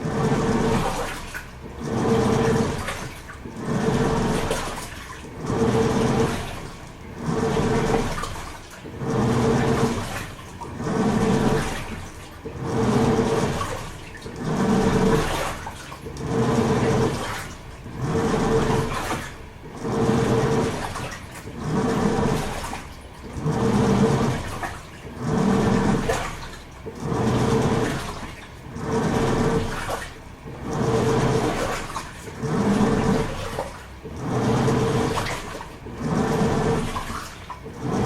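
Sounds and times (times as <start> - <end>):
washing machine motor hum: 0.0 - 38.0
water swishing in surges: 0.0 - 38.0.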